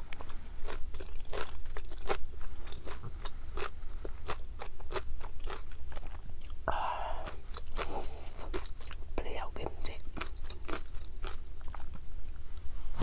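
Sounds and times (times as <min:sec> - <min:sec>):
chewing popping fish eggs: 0:00.1 - 0:09.0, 0:09.8 - 0:12.0.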